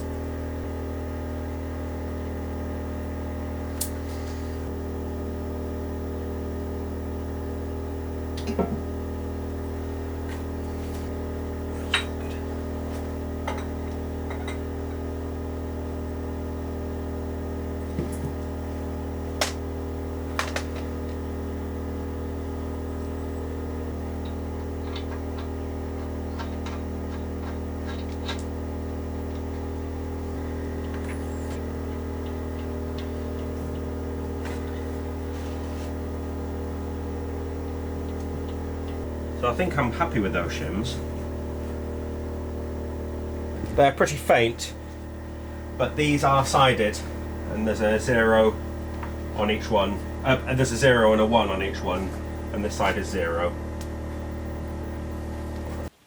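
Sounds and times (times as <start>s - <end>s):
generator humming: 0.0s - 56.0s.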